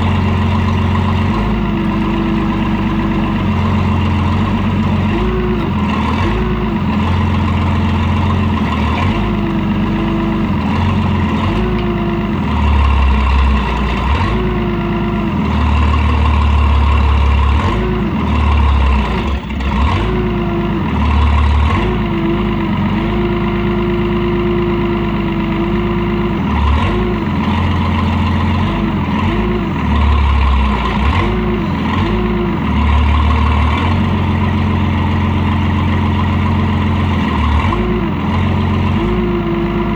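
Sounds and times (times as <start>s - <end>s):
backhoe engine running: 0.0s - 39.9s
hydraulic whine: 0.0s - 39.9s.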